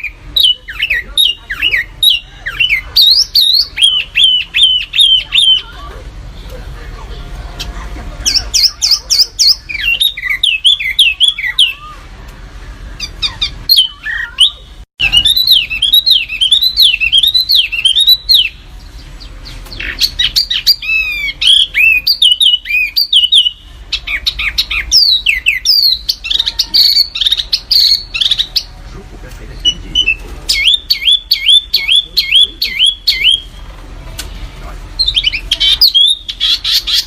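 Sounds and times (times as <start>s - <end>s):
songbird singing rapid whistles: 0.0s - 5.7s, 8.3s - 12.0s, 12.9s - 28.8s, 29.6s - 33.7s, 35.0s - 37.0s.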